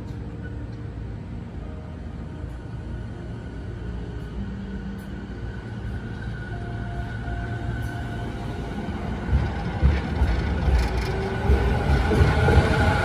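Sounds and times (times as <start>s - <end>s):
electric train rumbling and whining: 0.0s - 13.0s.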